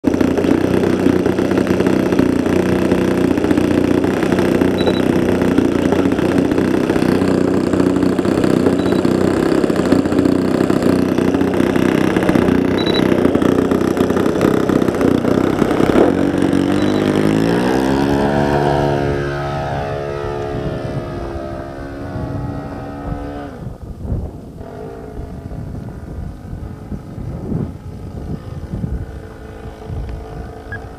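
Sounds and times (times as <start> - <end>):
model airplane engine running: 0.0 - 30.9.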